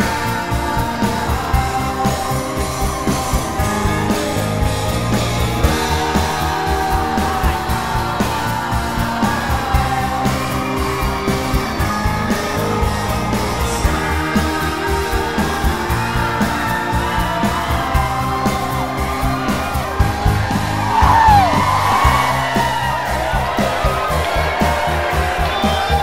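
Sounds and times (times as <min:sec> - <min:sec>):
steady beat: 0:00.0 - 0:26.0
students singing: 0:00.0 - 0:26.0.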